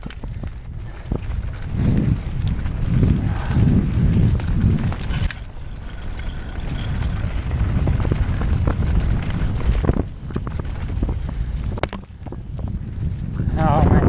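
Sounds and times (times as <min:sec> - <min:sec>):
tyres rolling over dirt: 0:00.0 - 0:13.4
bike clicks and rattles: 0:00.0 - 0:13.5
wind buffeting microphone: 0:00.0 - 0:14.0.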